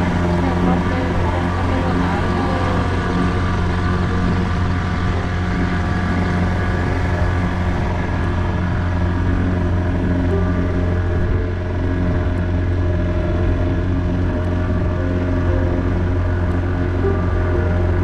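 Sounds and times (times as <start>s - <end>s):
outboard motor droning: 0.0s - 18.0s
water rushing along hull: 0.0s - 18.0s.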